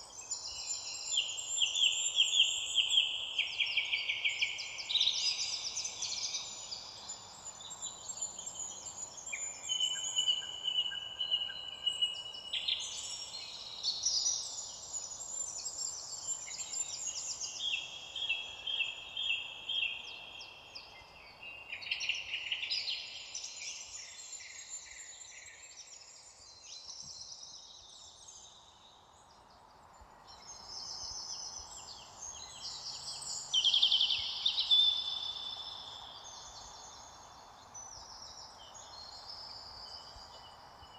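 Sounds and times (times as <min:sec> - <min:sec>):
faint steady hiss: 0:00.0 - 0:40.9
songbirds chirping and trilling: 0:00.0 - 0:40.9.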